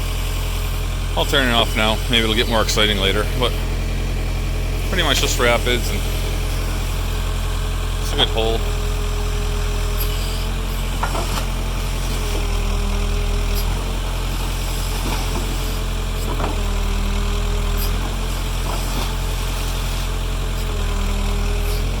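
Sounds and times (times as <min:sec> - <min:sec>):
diesel engine rumbling: 0:00.0 - 0:22.0.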